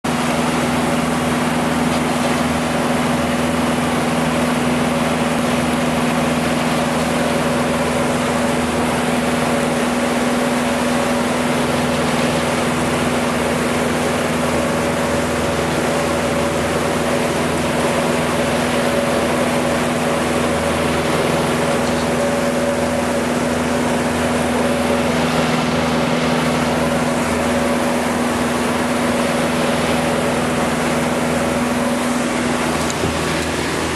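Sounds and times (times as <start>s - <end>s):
outboard motor running: 0.0s - 33.9s
water rushing from wake: 0.0s - 33.9s.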